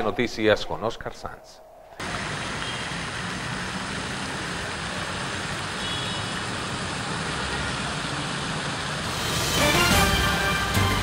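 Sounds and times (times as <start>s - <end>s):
road traffic hiss and rumble: 2.0s - 11.0s.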